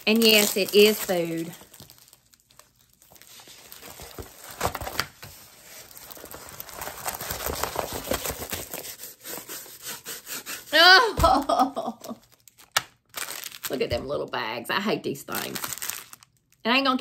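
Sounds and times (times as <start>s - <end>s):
plastic packaging crinkling: 0.0s - 9.2s, 11.4s - 14.5s, 15.2s - 16.8s.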